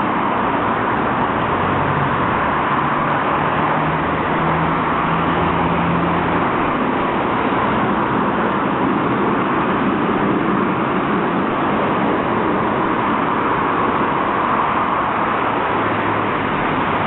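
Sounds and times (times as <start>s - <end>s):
city street traffic: 0.0s - 17.0s
vehicle humming: 0.0s - 17.0s.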